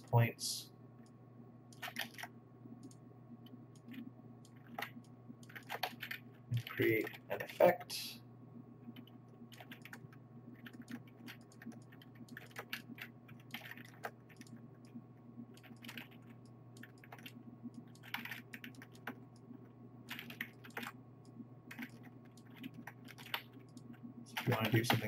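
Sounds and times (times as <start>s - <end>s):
steady low hum: 0.0s - 25.0s
keyboard and mouse clicks: 1.0s - 7.6s, 8.9s - 25.0s.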